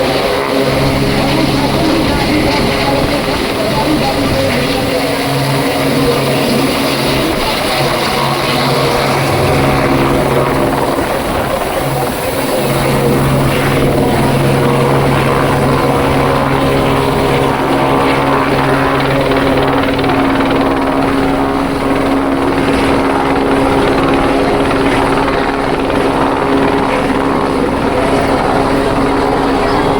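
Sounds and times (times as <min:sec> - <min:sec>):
crowd voices: 0:00.0 - 0:29.9
helicopter flying low overhead: 0:00.0 - 0:29.9.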